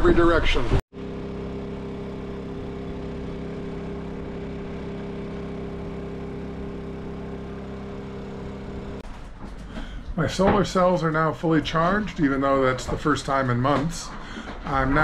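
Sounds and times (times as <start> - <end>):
generator engine hum: 0.6 - 15.0.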